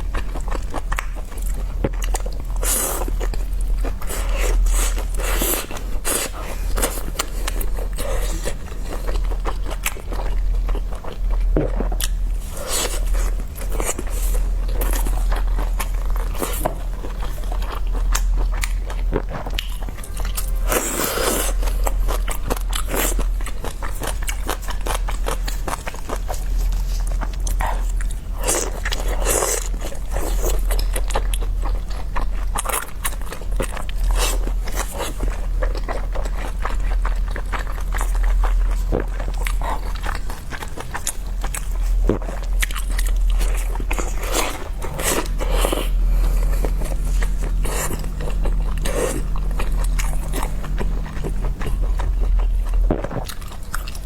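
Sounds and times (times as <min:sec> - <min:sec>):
biting and chewing: 0:00.0 - 0:54.0
steady low hum: 0:00.0 - 0:54.0.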